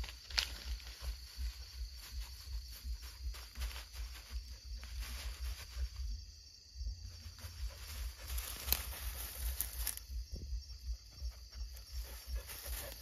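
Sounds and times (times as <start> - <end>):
footsteps through dry grass: 0.0 - 6.4, 7.0 - 10.3, 11.7 - 13.0
night insects chirring: 0.0 - 13.0.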